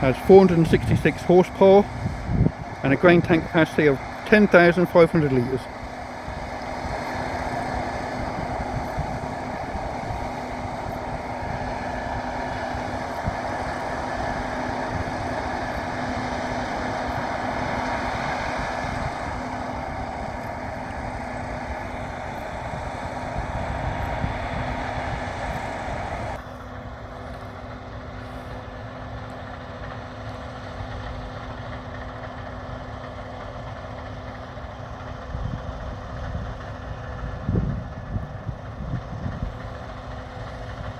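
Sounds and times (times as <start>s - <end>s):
combine harvester droning: 0.0s - 40.9s.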